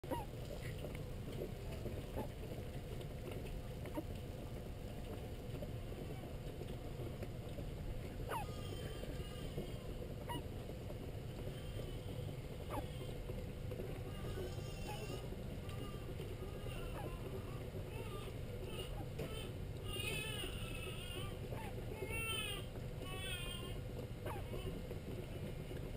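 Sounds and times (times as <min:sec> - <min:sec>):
steady low rumble: 0:00.0 - 0:25.9.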